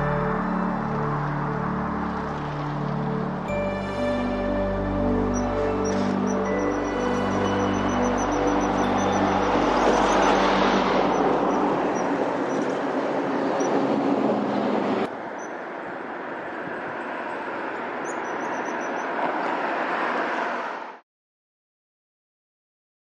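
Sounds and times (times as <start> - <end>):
vehicle noise roar: 0.0 - 21.0.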